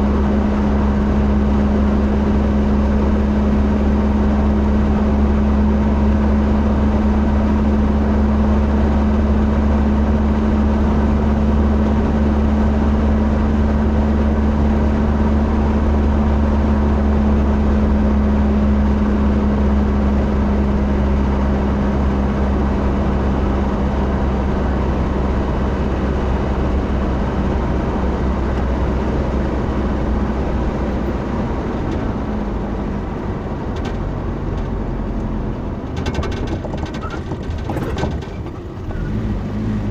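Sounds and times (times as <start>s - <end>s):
motor vehicle engine drone: 0.0s - 39.9s.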